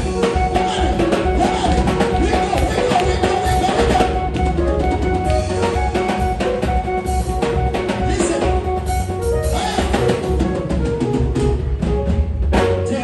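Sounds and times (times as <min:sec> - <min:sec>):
drum kit beat: 0:00.0 - 0:13.0
upbeat gospel music: 0:00.0 - 0:13.0.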